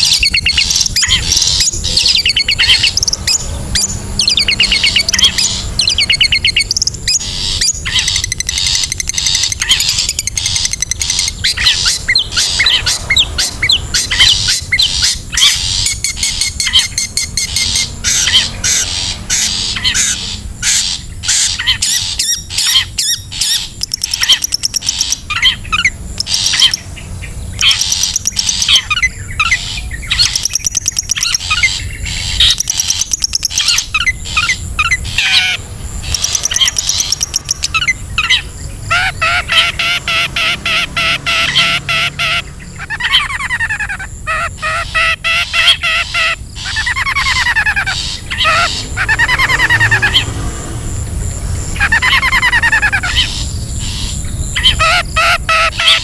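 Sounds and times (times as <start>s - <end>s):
shrike calling: 0.0s - 56.0s.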